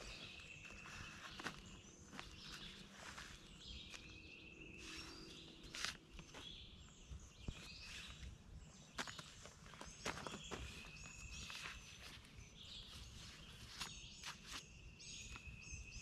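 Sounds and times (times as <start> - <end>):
rustling of pulling weeds: 0.0 - 6.6, 9.0 - 15.7
birds chirping: 0.0 - 16.0.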